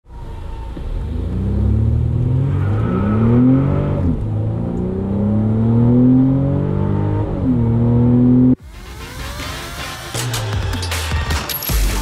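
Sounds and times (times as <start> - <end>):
car engine accelerating: 0.1 - 9.9.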